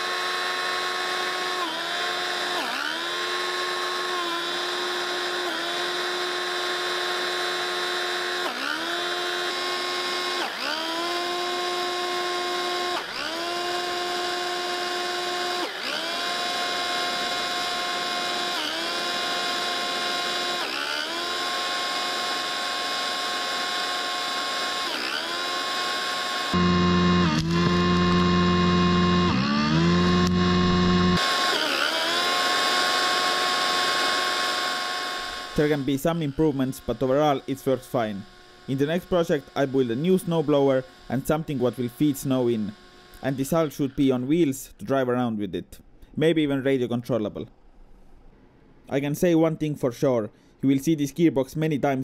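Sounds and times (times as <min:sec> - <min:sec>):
motor driven impeller whine: 0:00.1 - 0:44.0.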